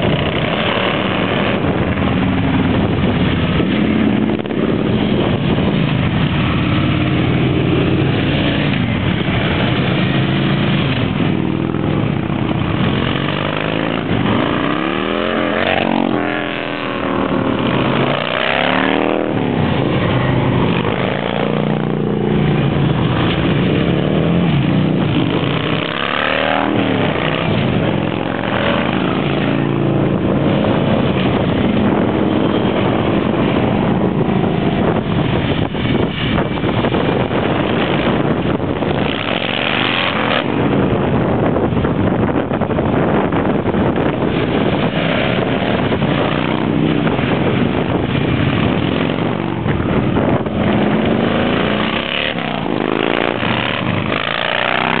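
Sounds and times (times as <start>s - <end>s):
motorcycles riding past: 0.0s - 55.0s.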